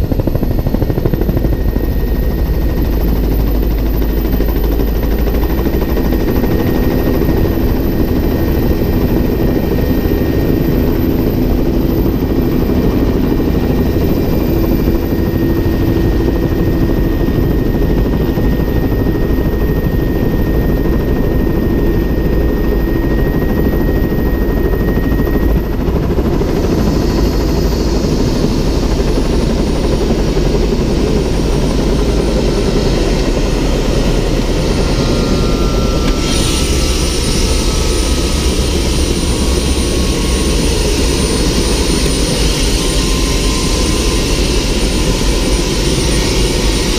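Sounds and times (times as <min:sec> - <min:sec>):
helicopter engine and rotor: 0:00.0 - 0:46.9
high whine dropping in pitch: 0:00.0 - 0:46.9.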